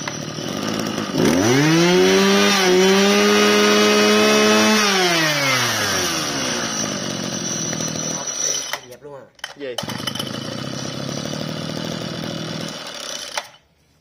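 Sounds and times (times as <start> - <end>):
brush-cutter engine idling and revving: 0.0 - 8.9, 9.8 - 13.6.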